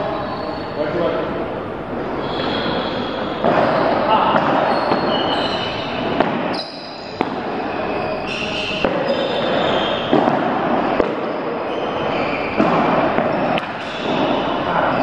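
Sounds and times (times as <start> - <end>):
ball hits and bounces echoing: 2.3 - 15.0.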